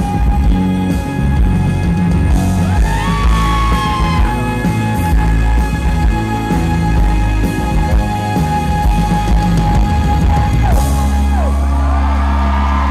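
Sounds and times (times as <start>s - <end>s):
live band playing: 0.0s - 12.9s.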